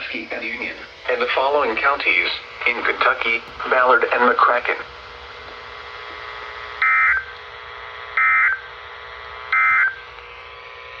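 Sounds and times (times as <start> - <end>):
receiver hiss and hum: 0.0 - 11.0.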